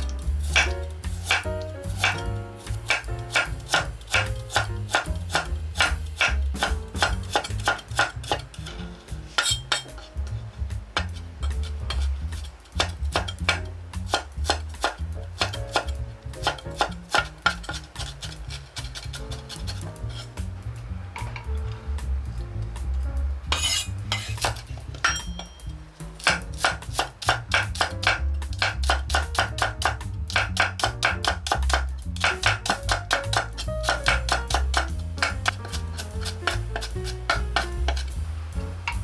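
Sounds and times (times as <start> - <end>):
knife chopping on cutting board: 0.0 - 10.0, 11.0 - 20.6, 23.5 - 25.4, 26.2 - 38.2
background music: 0.0 - 39.0.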